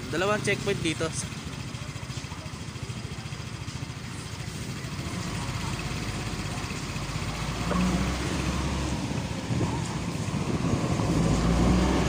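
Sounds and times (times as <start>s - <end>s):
van engine approaching: 0.0s - 12.0s.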